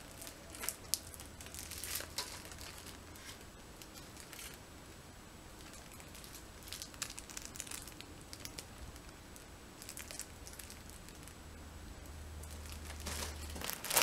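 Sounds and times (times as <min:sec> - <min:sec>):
foil balloon crinkling: 0:00.0 - 0:04.6, 0:05.6 - 0:09.2, 0:09.8 - 0:11.4, 0:12.4 - 0:14.0.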